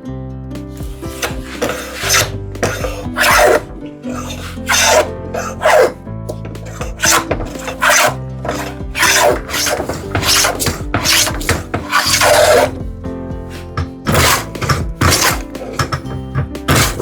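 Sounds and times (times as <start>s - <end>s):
background music: 0.0s - 17.0s
hand tool strokes on wood: 1.1s - 12.8s, 13.5s - 17.0s.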